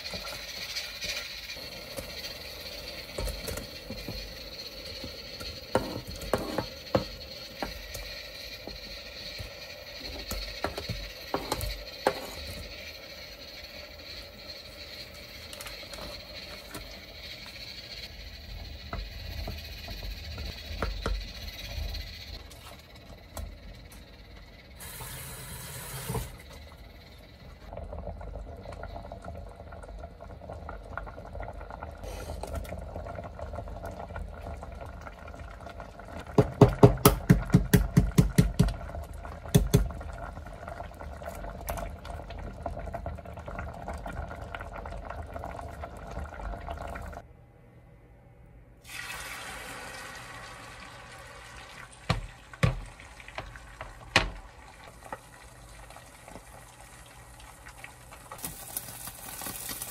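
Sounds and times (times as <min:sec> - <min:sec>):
stew simmering in a pot: 0:00.0 - 0:47.3, 0:48.8 - 0:59.9.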